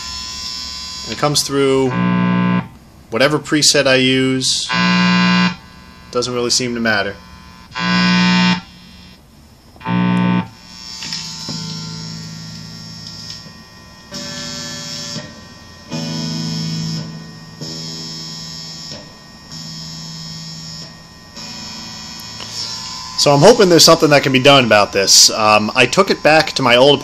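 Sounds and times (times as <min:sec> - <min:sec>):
guitar amplifier hum-buzz: 0:00.0 - 0:27.0.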